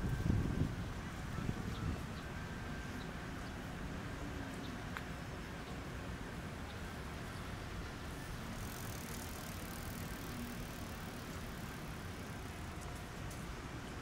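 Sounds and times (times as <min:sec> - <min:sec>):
distant road traffic rumble: 0:00.0 - 0:14.0.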